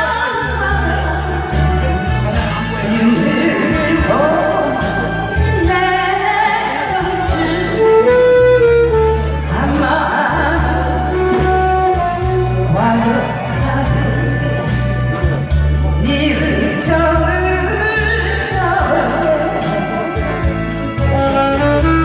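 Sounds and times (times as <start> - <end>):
backing track with bass and beat: 0.0 - 22.0
person singing: 0.0 - 22.0.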